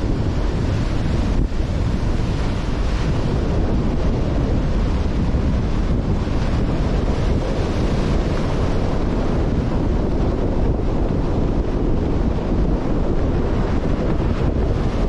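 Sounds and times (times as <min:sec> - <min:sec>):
sea surf breaking: 0:00.0 - 0:15.0
wind buffeting microphone: 0:00.0 - 0:15.0.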